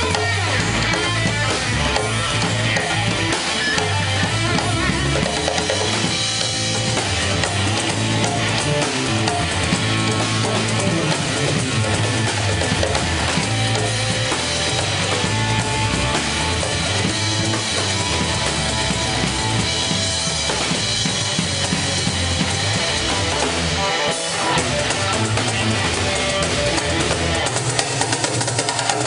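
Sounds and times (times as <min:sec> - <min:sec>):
congas and hand percussion: 0:00.0 - 0:22.5, 0:24.3 - 0:29.0
drum kit: 0:00.0 - 0:29.0
electric bass: 0:00.0 - 0:29.0
electric guitar: 0:00.0 - 0:29.0.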